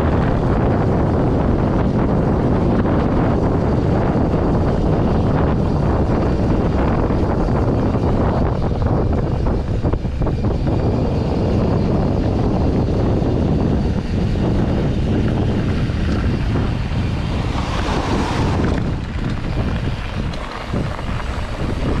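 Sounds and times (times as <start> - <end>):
bike tyres rumbling on gravel: 0.0 - 22.0
wind buffeting microphone: 0.0 - 22.0.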